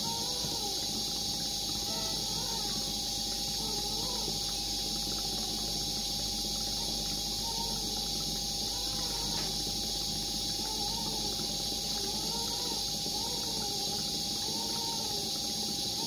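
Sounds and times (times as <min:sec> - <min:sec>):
constant hum tone: 0:00.0 - 0:16.0
incubator air flow hiss: 0:00.0 - 0:16.0.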